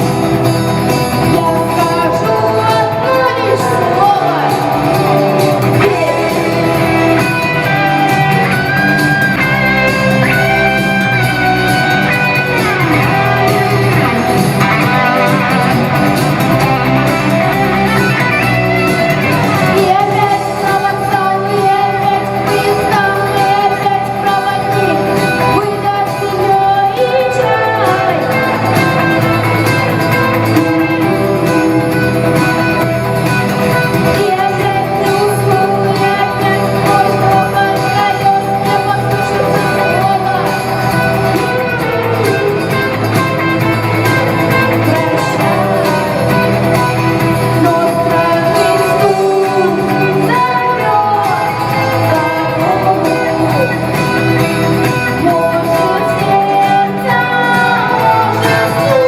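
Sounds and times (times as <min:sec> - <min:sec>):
person singing: 0:00.0 - 0:59.0
rock song with guitar: 0:00.0 - 0:59.0.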